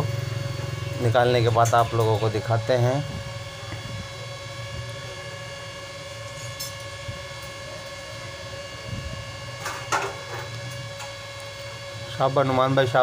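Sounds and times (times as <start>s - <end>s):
droning hum: 0.0s - 13.0s.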